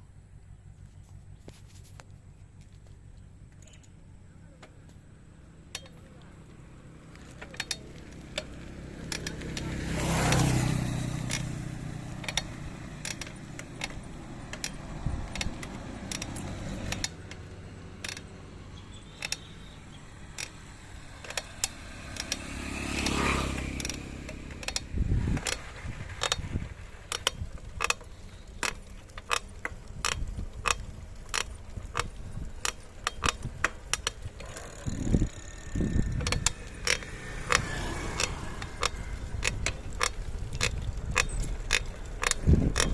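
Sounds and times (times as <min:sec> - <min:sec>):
passing traffic: 0:00.0 - 0:42.9
bicycle creaking clicks: 0:00.4 - 0:42.9.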